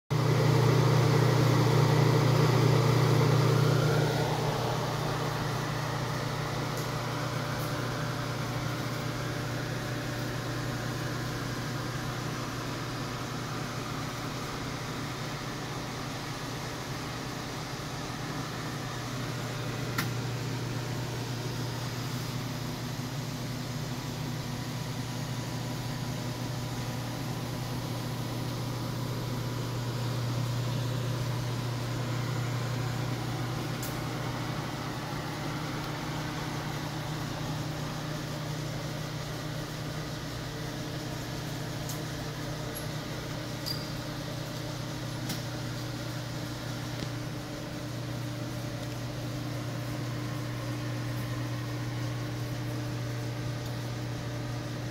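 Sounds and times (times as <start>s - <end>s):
oven fans humming: 0.1s - 54.9s.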